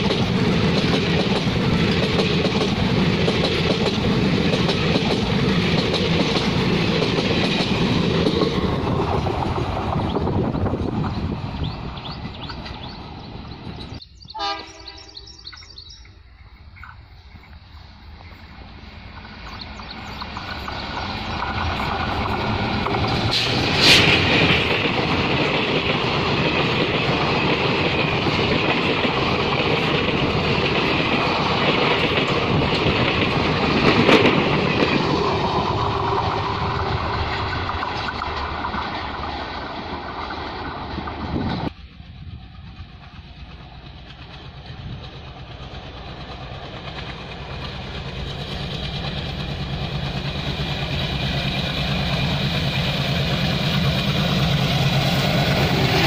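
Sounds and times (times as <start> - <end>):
diesel locomotive passing: 0.0 - 56.0
train coaches rolling past: 0.0 - 56.0.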